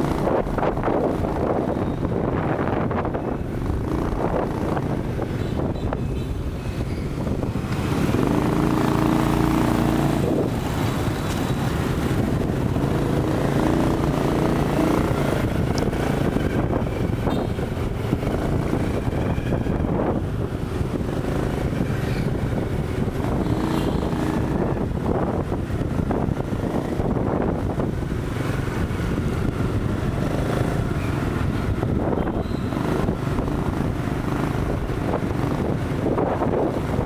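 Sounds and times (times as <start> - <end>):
wind buffeting microphone: 0.0 - 37.0
motorcycle engine running: 7.2 - 37.0.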